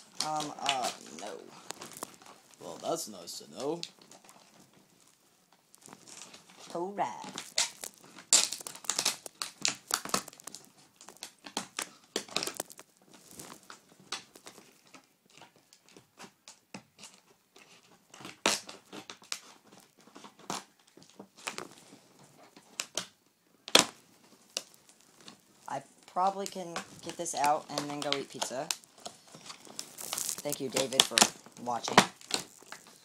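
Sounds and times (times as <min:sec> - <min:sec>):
plastic packaging crinkling and tearing: 0:00.0 - 0:33.0.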